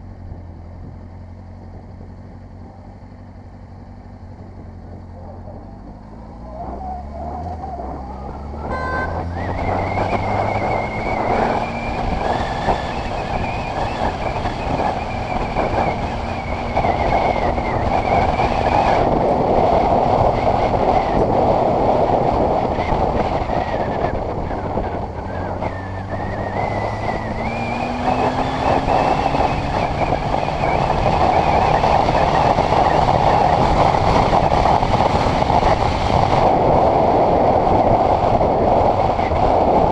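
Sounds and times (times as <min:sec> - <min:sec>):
motorcycle engine: 0:00.0 - 0:39.9
wind rushing over microphone: 0:04.1 - 0:39.9.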